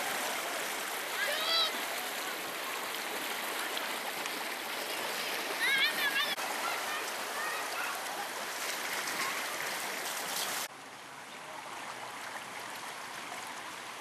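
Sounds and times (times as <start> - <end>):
floodwater rushing and sloshing: 0.0 - 14.0.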